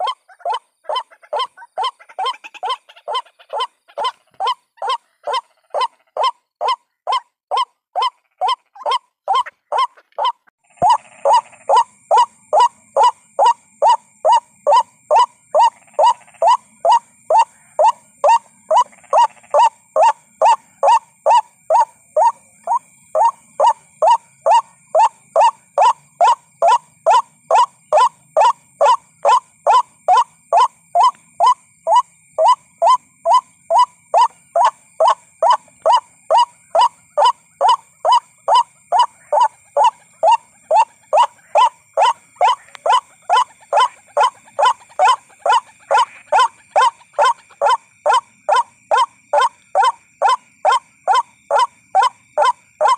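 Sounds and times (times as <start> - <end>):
waterhen calling: 0.0 - 52.9.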